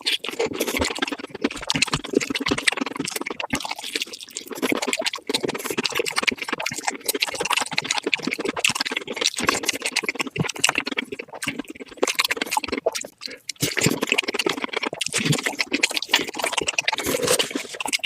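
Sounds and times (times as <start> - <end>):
person chewing crispy food: 0.0 - 18.0
wet mouth clicks: 0.0 - 18.0.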